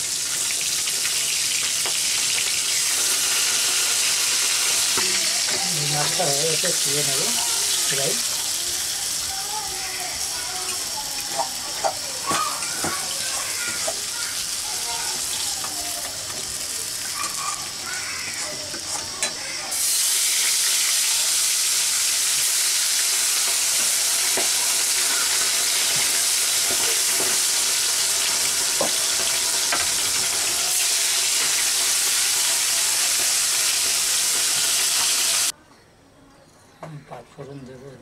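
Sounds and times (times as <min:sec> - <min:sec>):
fish sizzling in hot oil: 0:00.0 - 0:35.6.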